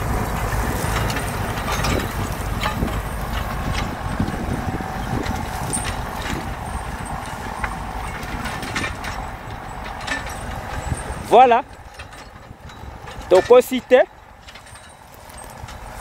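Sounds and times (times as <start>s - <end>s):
plough knocking and clattering: 0.0s - 16.0s
tractor engine running under load: 0.0s - 16.0s.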